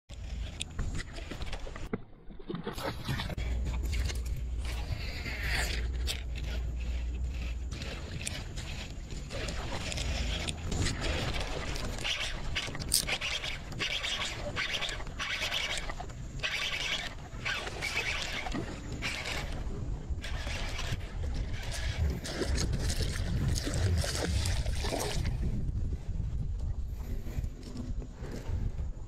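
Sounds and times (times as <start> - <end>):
wind rumbling on microphone: 2.6 - 29.0.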